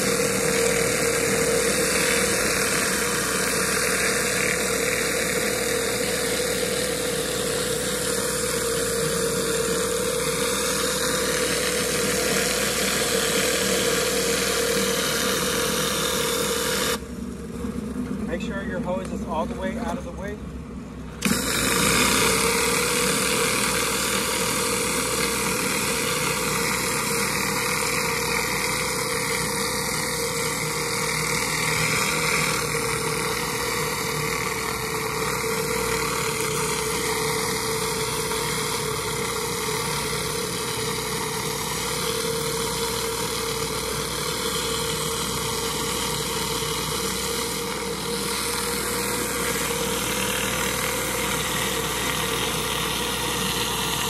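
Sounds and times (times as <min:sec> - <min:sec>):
constant whine: 0:00.0 - 0:54.0
pressure washer engine running: 0:00.0 - 0:54.0.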